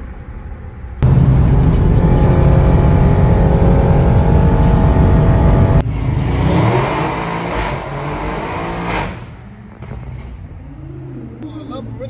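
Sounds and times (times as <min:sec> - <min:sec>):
car engine at high revs: 0:01.0 - 0:12.0.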